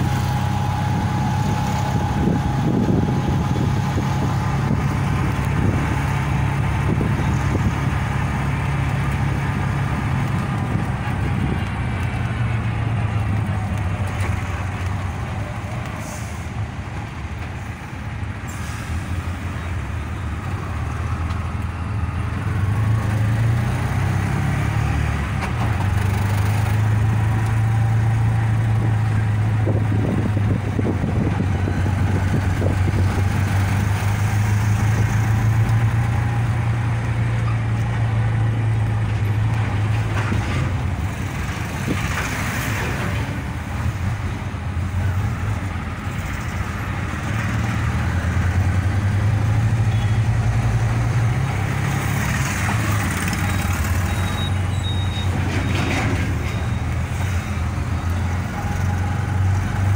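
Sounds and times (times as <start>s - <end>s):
road and wind noise: 0.0s - 59.9s
vehicle engine hum: 0.0s - 59.9s.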